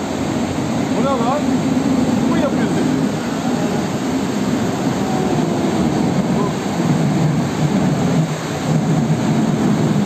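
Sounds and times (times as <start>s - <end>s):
floodwater rushing down street: 0.0s - 10.0s.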